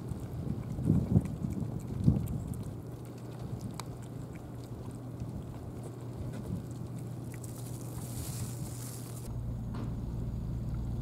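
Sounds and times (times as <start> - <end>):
cat crunching kibble: 0.0 - 9.3
steady low hum: 0.0 - 11.0.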